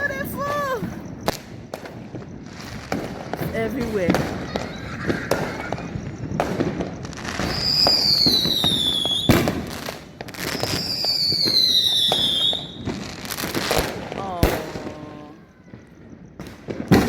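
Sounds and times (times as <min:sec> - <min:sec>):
firework whistles ending in bangs: 0:00.0 - 0:17.0
fireworks popping and crackling: 0:00.0 - 0:17.0.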